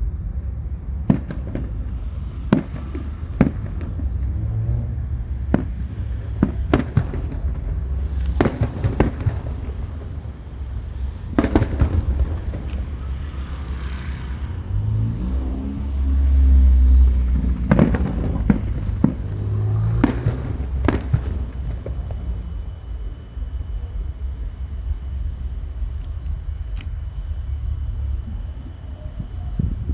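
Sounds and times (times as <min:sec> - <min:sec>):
fireworks bursting with bangs: 0:00.0 - 0:29.9
steady low rumble: 0:00.0 - 0:29.9.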